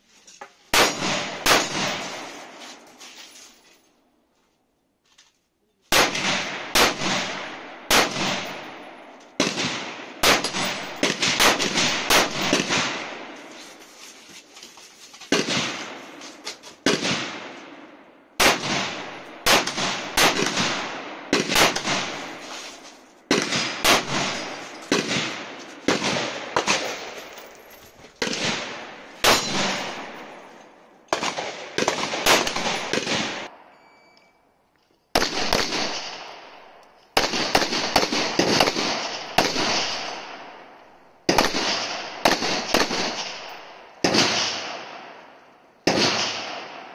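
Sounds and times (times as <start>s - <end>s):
rifle shots echoing: 0.7s - 2.6s, 5.9s - 13.5s, 15.3s - 16.2s, 16.8s - 22.6s, 23.2s - 27.6s, 28.2s - 33.7s, 35.1s - 46.9s.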